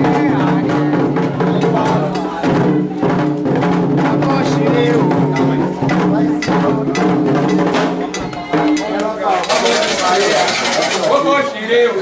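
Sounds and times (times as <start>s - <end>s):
group singing: 0.0s - 11.1s
hand drums beaten: 0.0s - 11.2s.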